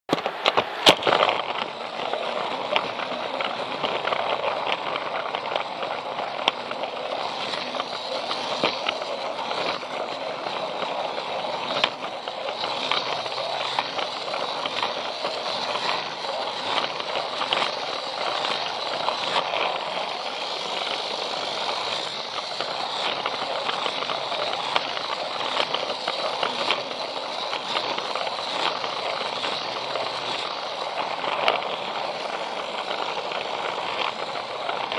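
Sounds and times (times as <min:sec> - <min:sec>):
small clicks: 0:00.1 - 0:34.9
toy train motor whirring: 0:00.1 - 0:34.9.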